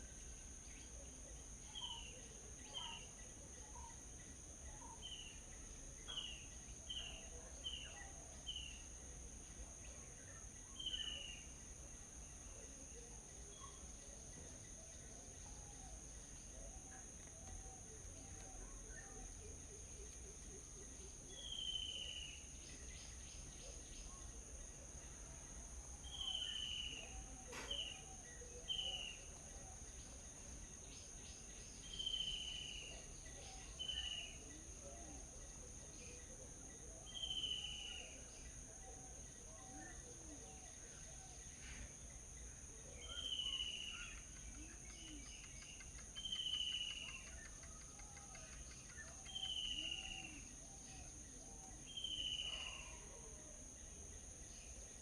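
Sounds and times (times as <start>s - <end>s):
small birds chirping: 0.0s - 25.2s, 25.9s - 53.1s.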